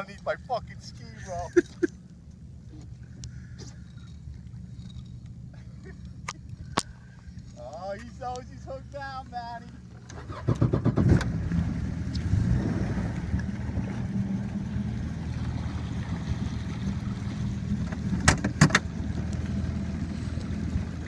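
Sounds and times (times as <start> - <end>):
jet ski engine running: 0.0 - 21.0.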